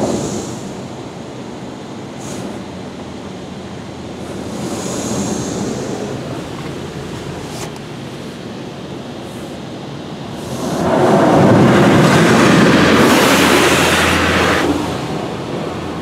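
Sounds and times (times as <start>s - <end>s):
car wash water spray: 2.1s - 16.0s.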